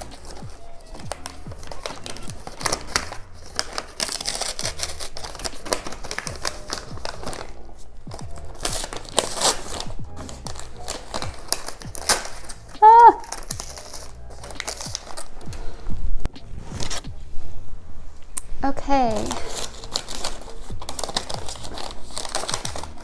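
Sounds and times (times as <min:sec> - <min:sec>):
wrapping paper rustling and tearing: 0:00.0 - 0:15.8, 0:19.0 - 0:23.0.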